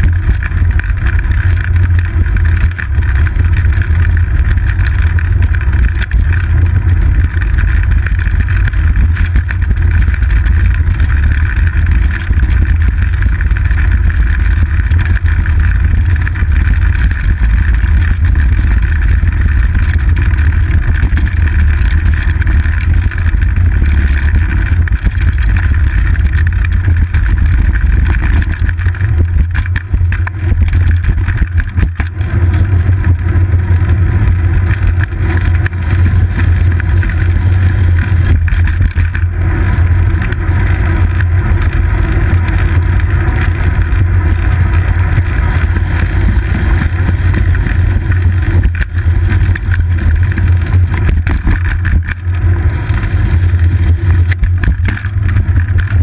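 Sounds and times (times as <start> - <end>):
bicycle ride vibration: 0.0 - 56.0.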